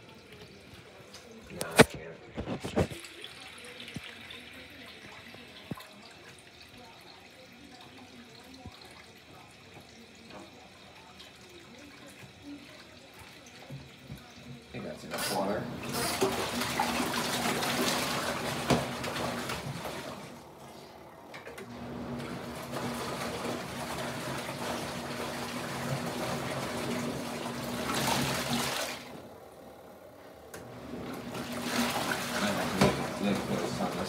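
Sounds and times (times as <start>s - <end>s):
water and towels churning: 0.0s - 29.7s, 30.6s - 34.0s
washing machine motor hum: 0.0s - 34.0s.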